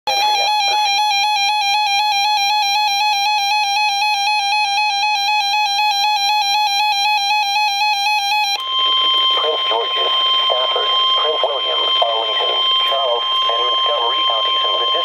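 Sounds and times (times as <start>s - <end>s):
warbling electronic alarm beeping: 0.1s - 15.0s.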